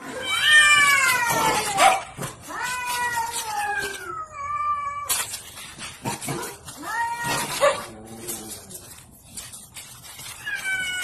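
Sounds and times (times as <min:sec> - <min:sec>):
cats yowling: 0:00.0 - 0:05.6, 0:06.4 - 0:09.0, 0:10.0 - 0:11.0.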